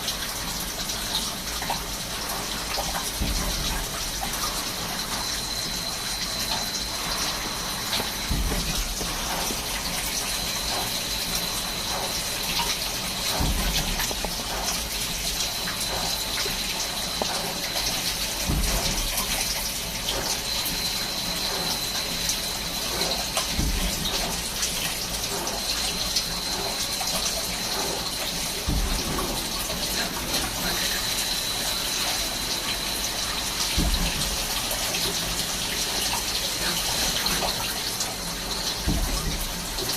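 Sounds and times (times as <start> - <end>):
coolant gushing: 0.0 - 39.9
high machine whine: 1.0 - 39.9.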